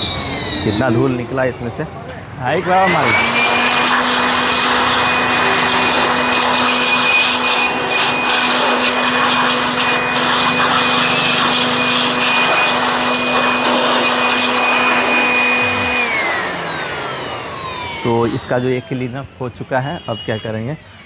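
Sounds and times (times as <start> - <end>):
electric air blower whining: 0.0 - 1.6, 2.4 - 19.4.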